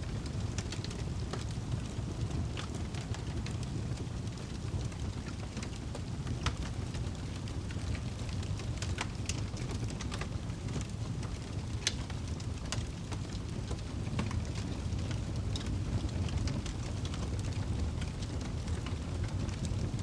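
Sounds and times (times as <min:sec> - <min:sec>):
low rumble of flames: 0:00.0 - 0:20.0
wood fire crackling and popping: 0:00.0 - 0:20.0.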